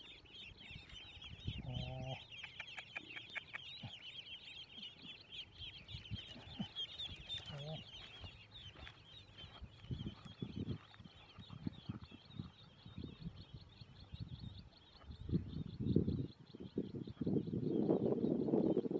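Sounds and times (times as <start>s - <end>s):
ducklings peeping: 0.0s - 18.9s.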